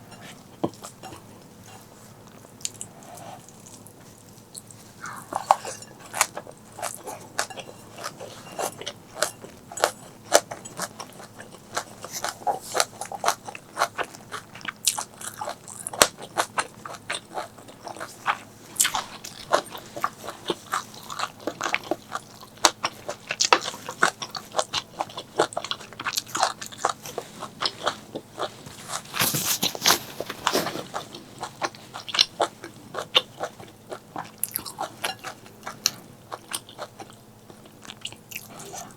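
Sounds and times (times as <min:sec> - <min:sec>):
person chewing crunchy food: 0:00.1 - 0:38.9.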